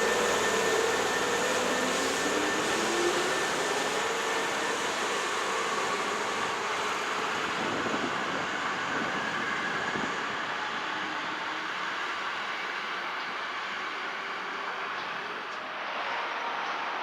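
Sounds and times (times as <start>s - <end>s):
electric train running: 0.0s - 17.0s.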